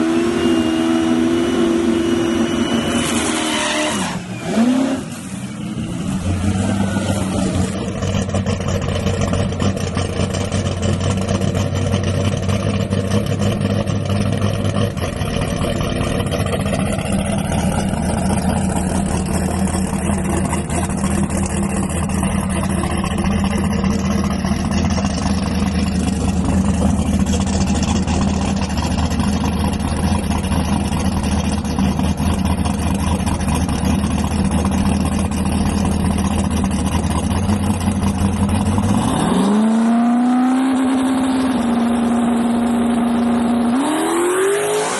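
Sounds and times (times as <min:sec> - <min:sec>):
drag racing engine idling: 0:05.3 - 0:43.8.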